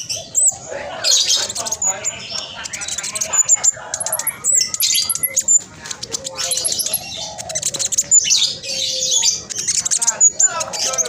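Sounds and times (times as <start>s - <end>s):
bird chattering song: 0.0s - 11.0s.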